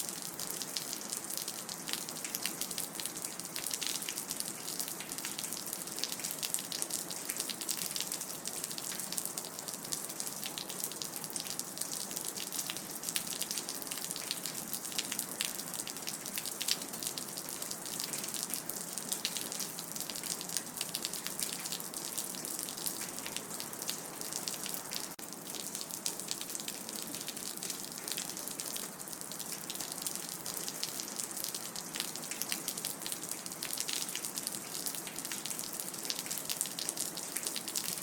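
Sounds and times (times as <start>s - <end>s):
rain dripping and pattering: 0.0s - 38.0s.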